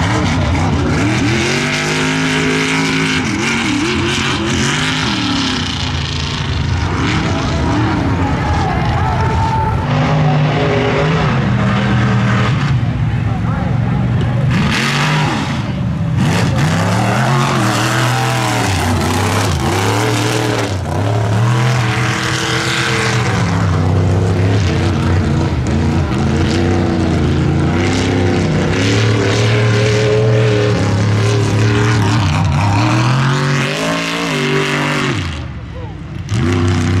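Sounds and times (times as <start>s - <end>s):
truck engines revving hard: 0.0s - 37.0s.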